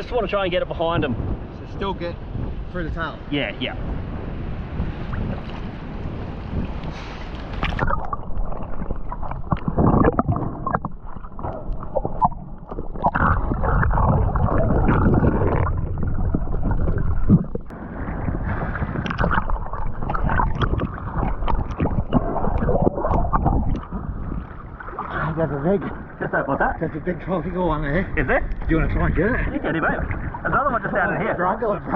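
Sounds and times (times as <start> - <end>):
underwater bubbling and rushing: 3.8 - 31.9
water sloshing and gurgling: 3.8 - 31.9.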